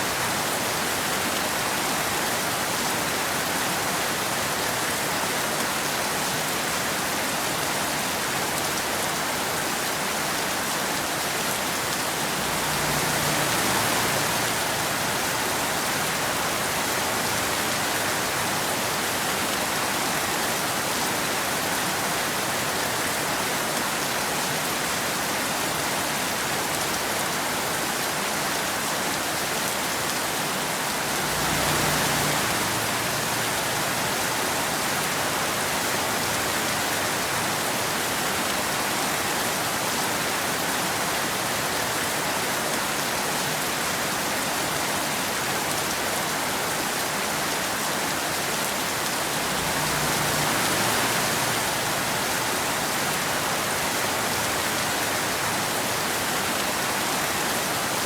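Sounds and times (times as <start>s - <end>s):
rain falling on a road: 0.0s - 58.0s.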